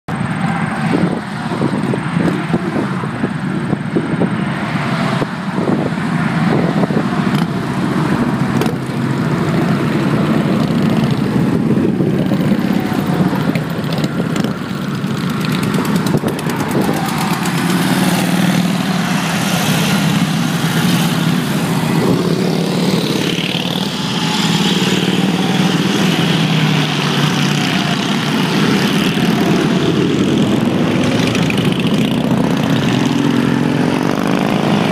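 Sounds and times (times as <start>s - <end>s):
motorcycles riding past: 0.2s - 34.9s.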